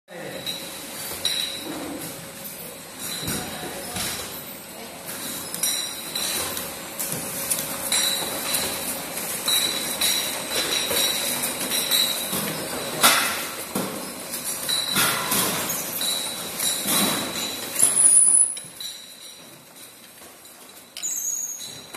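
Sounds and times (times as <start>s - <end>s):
glass bottles clinking: 0.2s - 21.9s.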